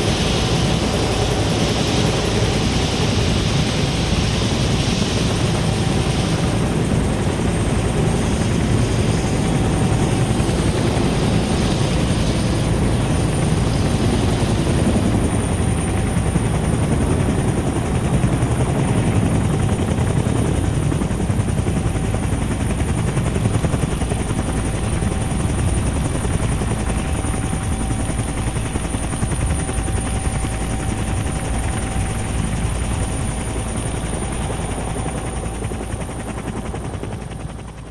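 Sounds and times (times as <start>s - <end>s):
helicopter hovering: 0.0s - 37.9s.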